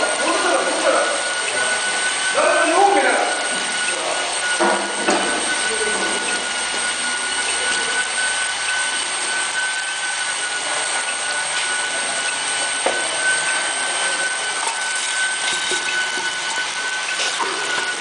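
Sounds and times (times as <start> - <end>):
furnace high whine: 0.0 - 18.0.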